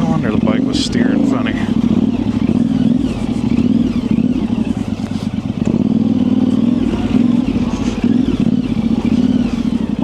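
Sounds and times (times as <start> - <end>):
motorcycle engine at low revs: 0.0 - 10.0
clatter: 1.5 - 10.0.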